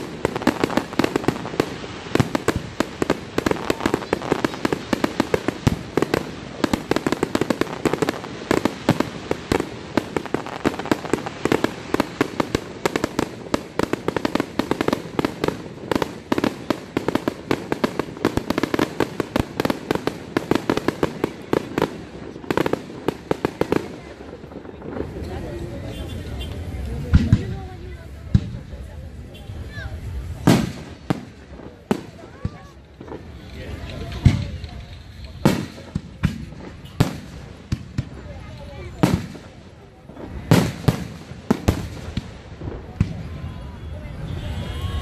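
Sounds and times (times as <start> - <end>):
fireworks bursts and bangs: 0.0 - 45.0.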